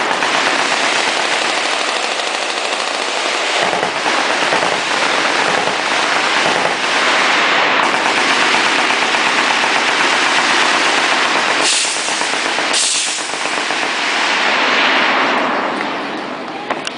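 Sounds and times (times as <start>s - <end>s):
heavy automatic gunfire: 0.0s - 15.8s.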